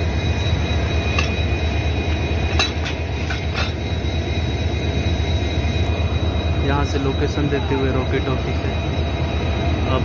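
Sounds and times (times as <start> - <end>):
diesel locomotive idling: 0.0 - 10.0.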